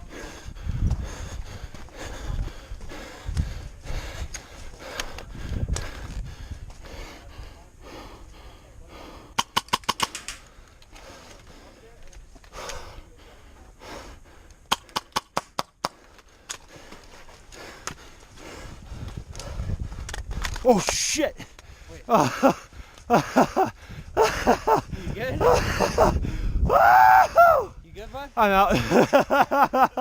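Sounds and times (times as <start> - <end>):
person breathing hard: 0.0 - 9.5, 10.4 - 15.1, 15.8 - 20.1, 21.5 - 27.7.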